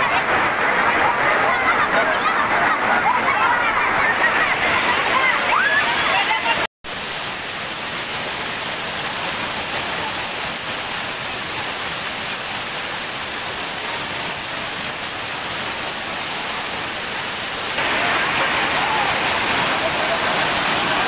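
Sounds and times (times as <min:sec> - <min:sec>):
water splashing over boulders: 0:00.0 - 0:21.0.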